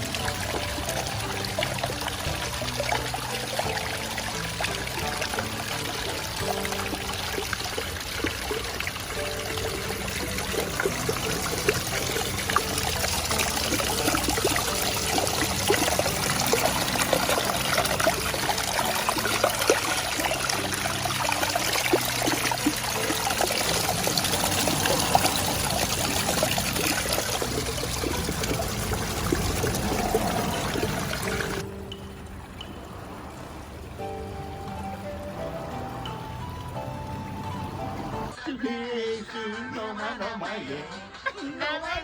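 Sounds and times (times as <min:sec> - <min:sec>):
waterfall pouring and splashing: 0:00.0 - 0:38.4.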